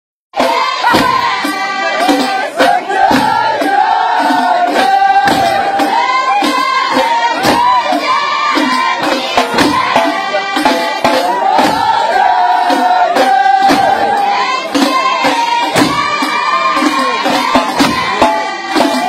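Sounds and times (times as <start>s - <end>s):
frame drums: 0.4s - 19.0s
men's chorus singing: 0.4s - 19.0s.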